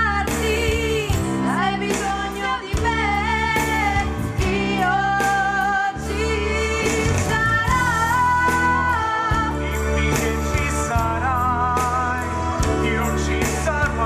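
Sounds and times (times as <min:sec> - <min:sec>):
sustained instrumental accompaniment: 0:00.0 - 0:14.0.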